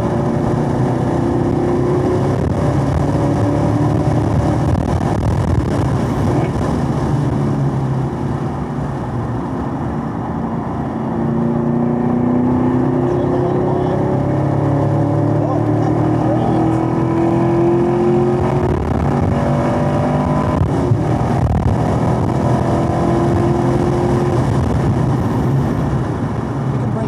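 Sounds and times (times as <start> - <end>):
car engine at full throttle: 0.0 - 27.0
wind and tyre noise: 0.0 - 27.0.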